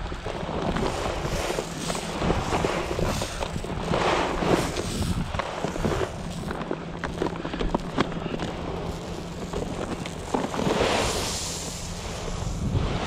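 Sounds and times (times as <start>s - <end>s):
wind on microphone: 0.0s - 6.6s, 8.3s - 13.0s
footsteps on dirt: 0.0s - 12.0s
corn scattered onto dirt: 0.1s - 12.5s.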